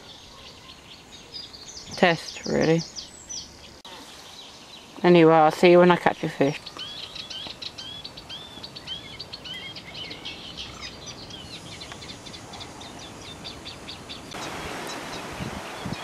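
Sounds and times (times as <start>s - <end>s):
small birds chirping: 0.0s - 16.0s
steady outdoor hiss: 0.0s - 16.0s.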